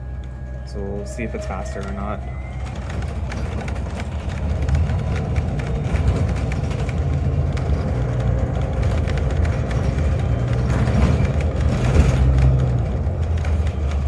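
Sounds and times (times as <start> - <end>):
bus engine and road rumble: 0.0 - 14.0
small rattles and clicks: 1.4 - 14.0.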